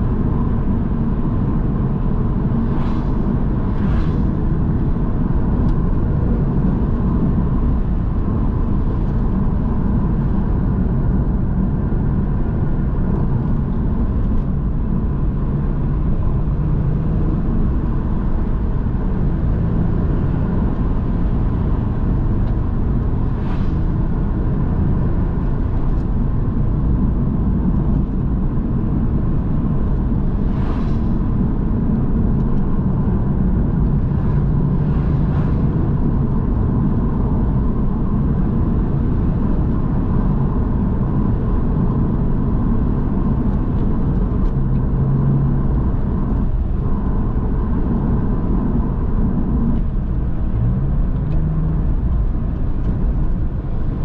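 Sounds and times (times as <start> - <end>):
car engine running steadily: 0.0 - 54.0
tyre and road noise: 0.0 - 54.0.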